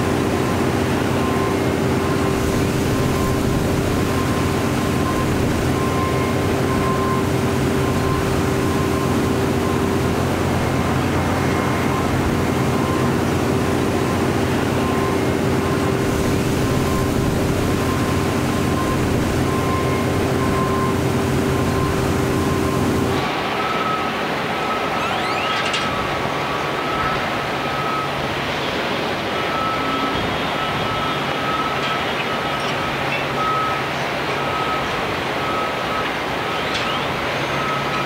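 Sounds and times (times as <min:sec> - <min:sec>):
machinery droning: 0:00.0 - 0:38.0.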